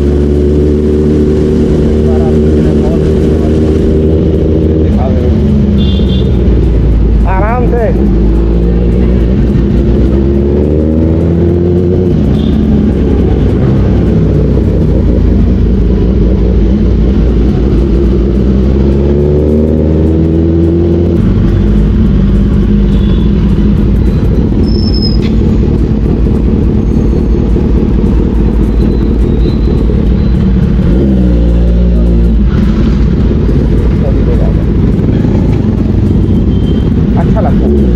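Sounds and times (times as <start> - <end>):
motorcycle engine revving: 0.0 - 37.9
wind and road noise: 0.0 - 37.9.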